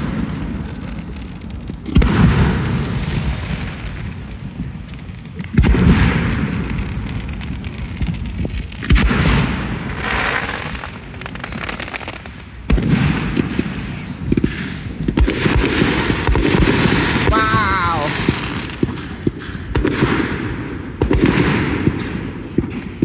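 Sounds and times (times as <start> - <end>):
fireworks booming: 0.0 - 23.0
fireworks crackling: 0.0 - 23.0
rolling echo: 0.0 - 23.0.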